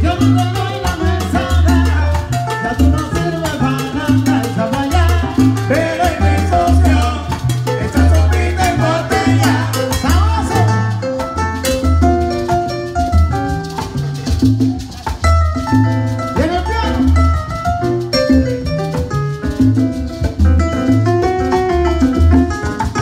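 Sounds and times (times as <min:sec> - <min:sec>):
congas and percussion: 0:00.0 - 0:23.0
upright bass notes: 0:00.0 - 0:23.0.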